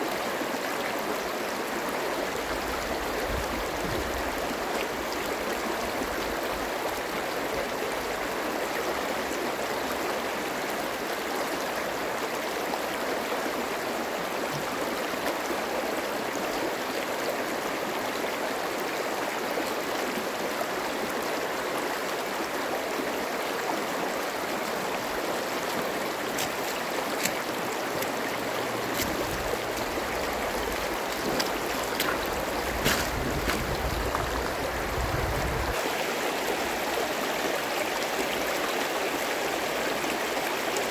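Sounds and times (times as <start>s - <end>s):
stream babbling over pebbles: 0.0s - 40.9s.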